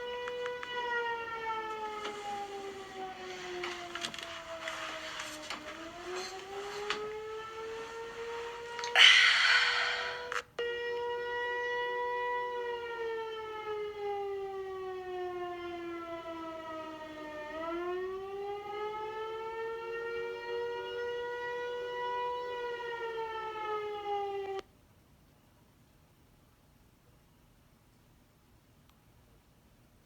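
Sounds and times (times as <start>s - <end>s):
tornado siren wailing: 0.0s - 24.6s.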